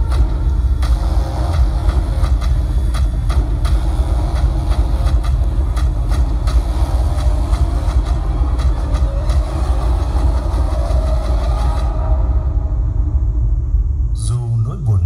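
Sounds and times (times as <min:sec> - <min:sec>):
deep continuous bass: 0:00.0 - 0:15.0.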